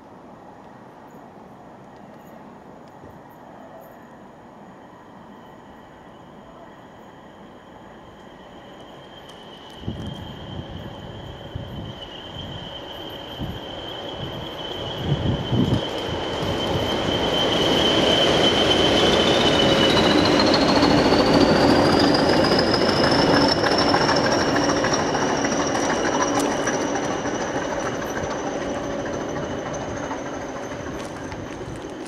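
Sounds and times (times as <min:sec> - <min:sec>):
diesel locomotives passing: 0:00.0 - 0:32.0
high whistle: 0:05.2 - 0:31.3.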